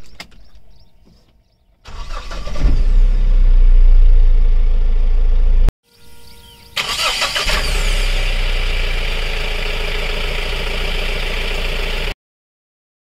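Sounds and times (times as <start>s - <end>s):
diesel engine starting and idling: 0.4s - 5.7s, 6.4s - 12.2s.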